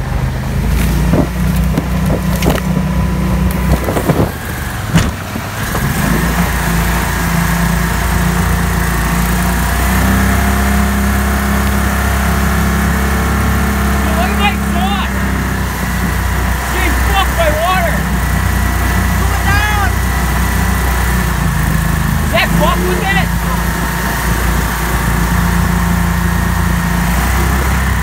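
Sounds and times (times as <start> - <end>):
boat motor droning: 0.0 - 28.0.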